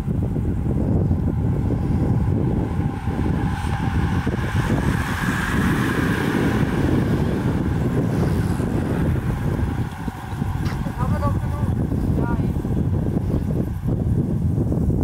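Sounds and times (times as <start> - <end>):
racing bicycles whirring past: 0.0 - 15.0
wind buffeting microphone: 0.0 - 15.0.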